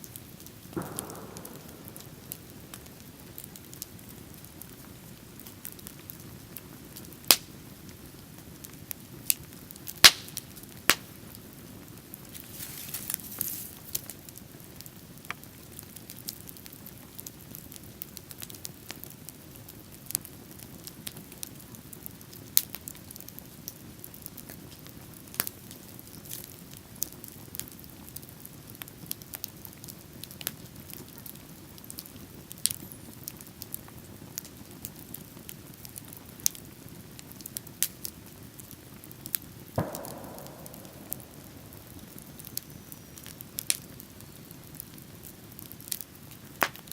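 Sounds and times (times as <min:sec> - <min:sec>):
bonfire crackling: 0:00.0 - 0:46.9.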